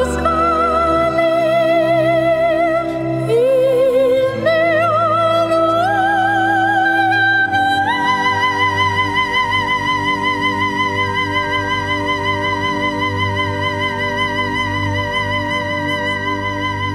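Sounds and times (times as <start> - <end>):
low sustained accompaniment: 0.0 - 16.9
slow solo melody with vibrato: 0.0 - 16.9.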